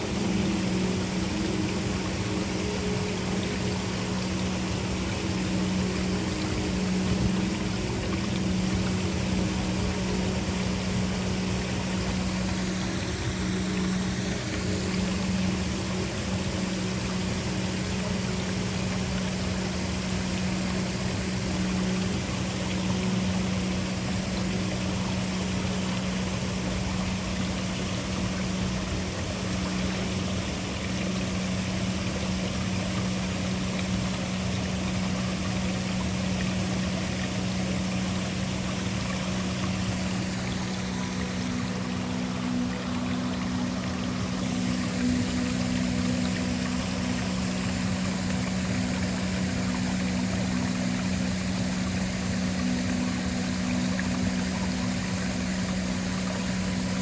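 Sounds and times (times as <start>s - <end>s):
low background drone: 0.0s - 57.0s
waterfall rushing: 0.0s - 57.0s.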